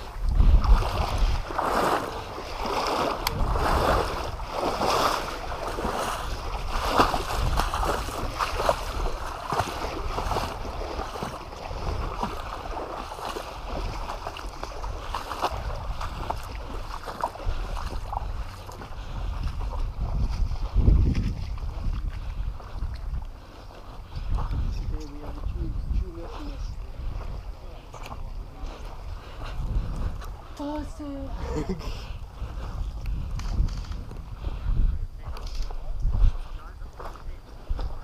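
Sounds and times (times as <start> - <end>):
footsteps wading through water: 0.0 - 38.0.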